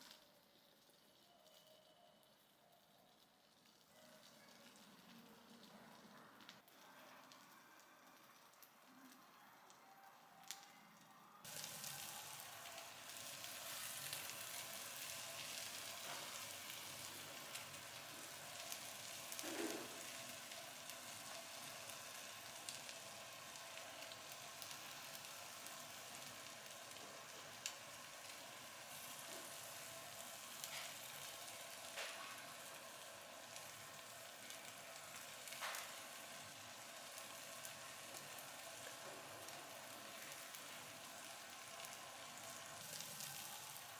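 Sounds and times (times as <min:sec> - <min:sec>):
food sizzling: 0:00.0 - 0:43.9.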